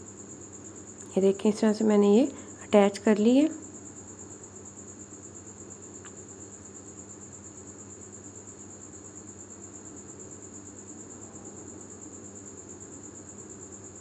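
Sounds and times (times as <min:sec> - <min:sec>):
low steady hum: 0:00.0 - 0:13.3.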